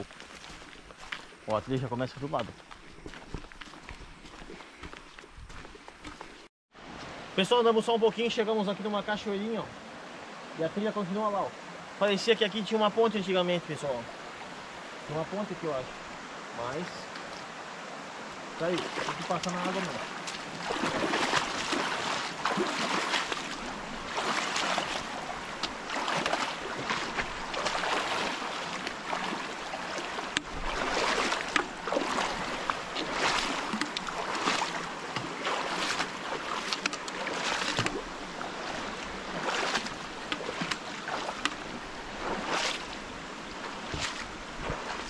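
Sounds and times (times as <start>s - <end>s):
feet splashing in a stream: 0.0s - 7.3s, 7.9s - 45.0s
running water rushing: 0.0s - 45.0s.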